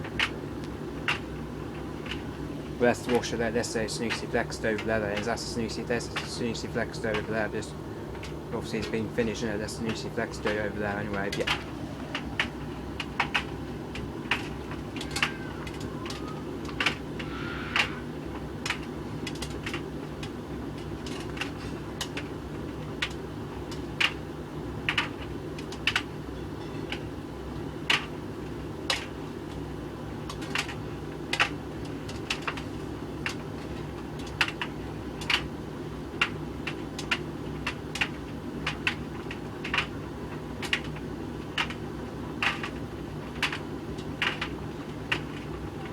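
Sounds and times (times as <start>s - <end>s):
tumble dryer motor hum: 0.0s - 45.9s.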